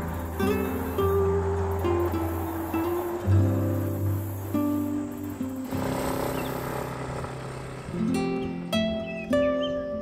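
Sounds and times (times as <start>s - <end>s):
sustained instrumental music: 0.0s - 10.0s.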